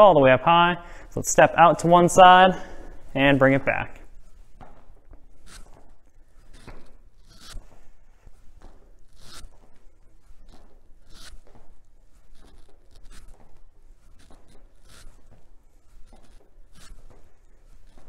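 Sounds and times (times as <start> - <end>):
light steps on floor: 0.9 - 18.0.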